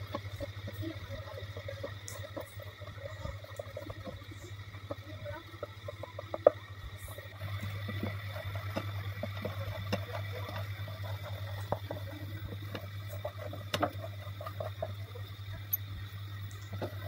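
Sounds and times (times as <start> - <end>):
steady low hum: 0.0 - 17.0
wet squishing mixture: 0.0 - 17.0.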